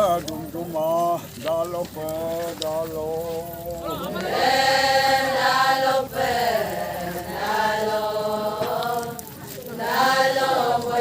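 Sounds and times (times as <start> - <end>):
voices chanting folk song: 0.0 - 11.0.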